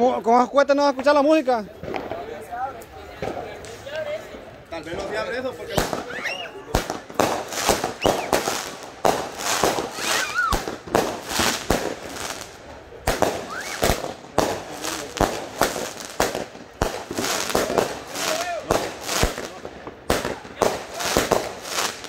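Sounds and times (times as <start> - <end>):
fireworks bangs and pops: 0.8 - 22.0.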